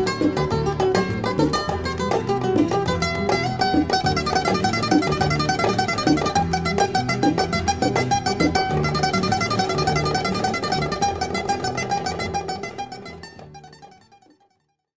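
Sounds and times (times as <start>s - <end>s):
bass line: 0.0s - 13.8s
rapidly plucked strings: 0.0s - 14.5s.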